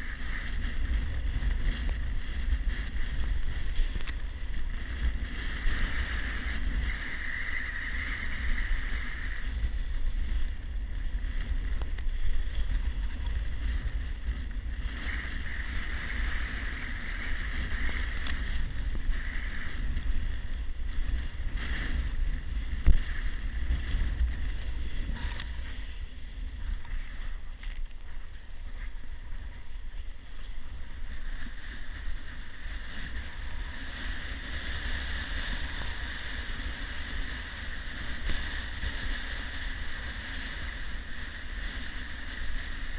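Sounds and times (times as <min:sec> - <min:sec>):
surf rushing: 0:00.0 - 0:42.9
wind buffeting microphone: 0:00.0 - 0:42.9.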